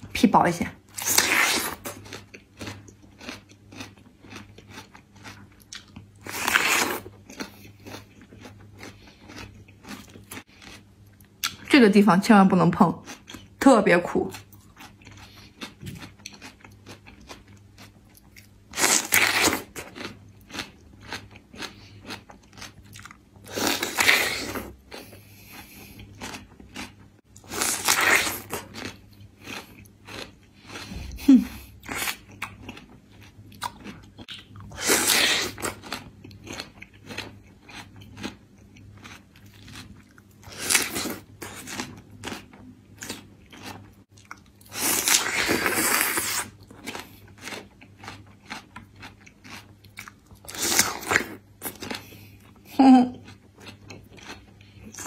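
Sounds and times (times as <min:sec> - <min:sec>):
chewing: 0:01.0 - 0:11.7, 0:14.3 - 0:55.0.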